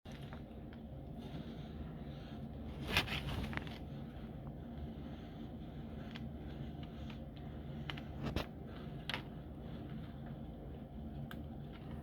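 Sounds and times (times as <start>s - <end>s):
low indoor hum: 0.1s - 12.0s.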